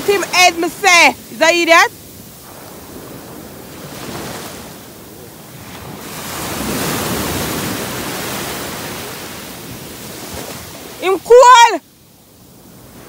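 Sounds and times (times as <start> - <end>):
small sea waves breaking: 0.0 - 13.0.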